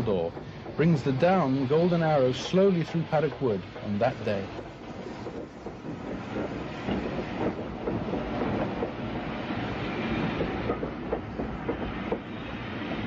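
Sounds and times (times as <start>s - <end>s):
train rumble: 0.0s - 13.0s
train wheels clicking over rail joints: 0.0s - 13.0s.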